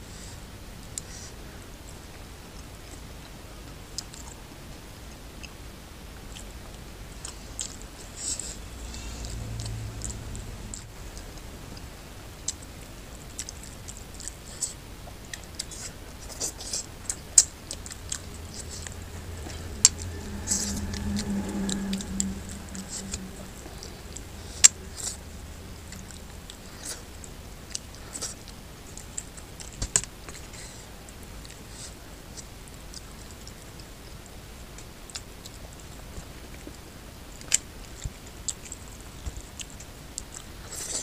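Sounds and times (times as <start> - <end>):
low hum: 1.4 - 34.7.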